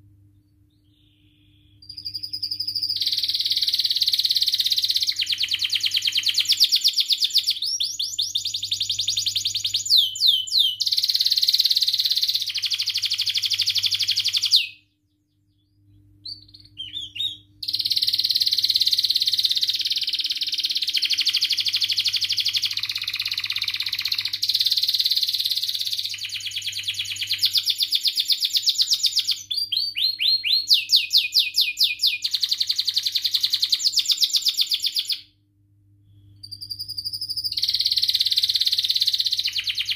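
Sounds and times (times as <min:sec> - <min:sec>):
canary singing trills: 0:00.4 - 0:35.3, 0:36.3 - 0:39.9.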